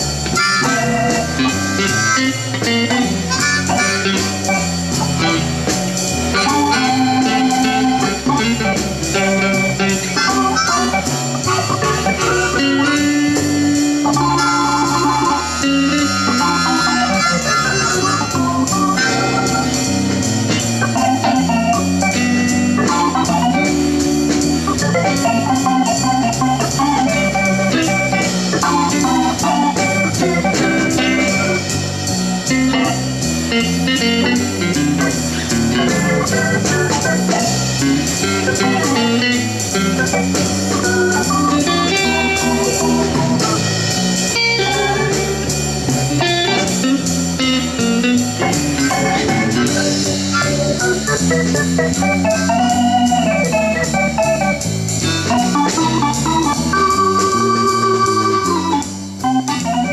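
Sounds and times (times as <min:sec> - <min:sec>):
organ and guitar music: 0:00.0 - 0:59.9.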